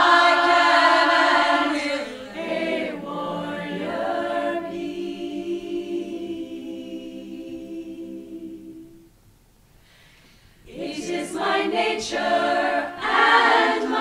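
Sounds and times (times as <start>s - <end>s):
women's choir singing a cappella: 0.0s - 9.1s, 10.6s - 14.0s.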